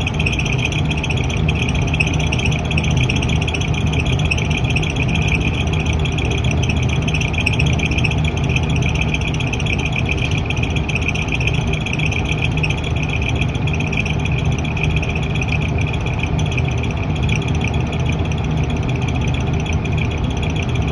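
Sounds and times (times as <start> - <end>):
exhaust fan humming and buzzing: 0.0 - 20.9.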